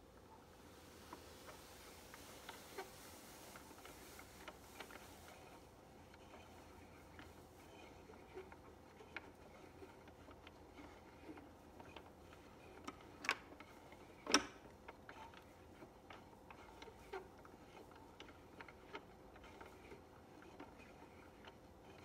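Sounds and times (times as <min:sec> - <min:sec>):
mechanism clicking and ticking: 0:03.5 - 0:22.0.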